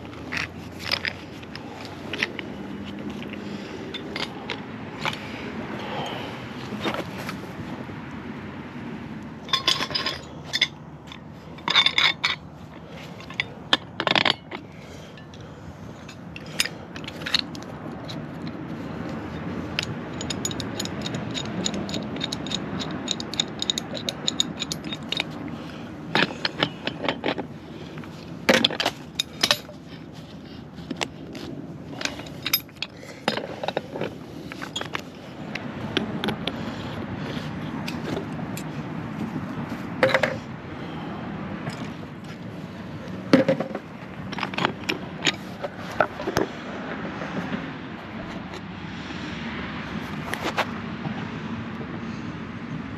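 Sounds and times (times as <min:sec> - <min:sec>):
metal tools clinking and scraping: 0:00.0 - 0:07.4, 0:09.4 - 0:41.0, 0:41.6 - 0:46.6.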